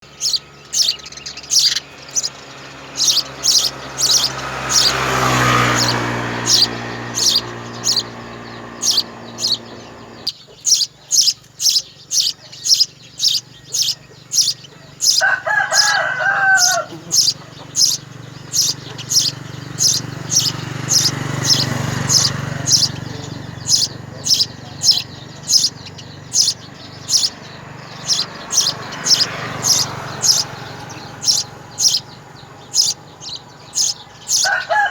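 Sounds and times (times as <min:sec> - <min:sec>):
nestlings chirping: 0:00.0 - 0:34.9.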